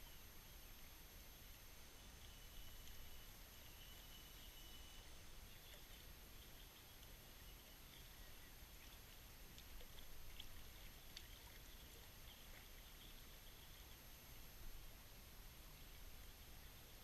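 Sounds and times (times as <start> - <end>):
faint chirps and ticks: 0.0 - 17.0.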